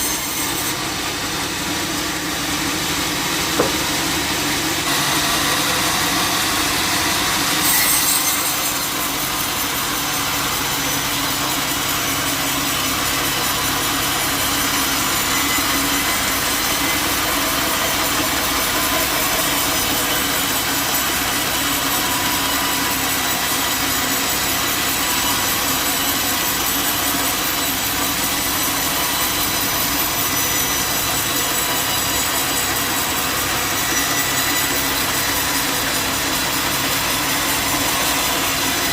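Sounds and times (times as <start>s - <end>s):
saw cutting through wood: 0.0s - 38.9s.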